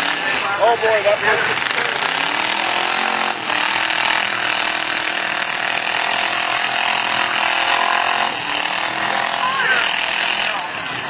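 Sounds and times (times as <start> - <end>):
car engines running hard: 0.0 - 11.0.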